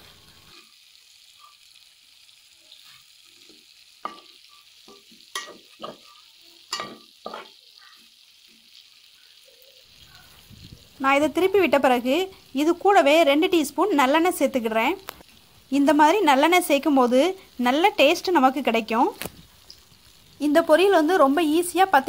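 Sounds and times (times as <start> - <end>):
soft frying sizzle: 0.0 - 22.0.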